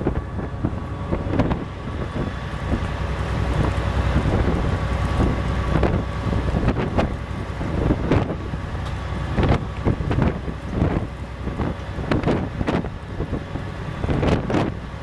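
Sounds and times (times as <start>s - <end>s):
gusty wind buffeting microphone: 0.0s - 15.0s
low ship drone: 0.0s - 15.0s.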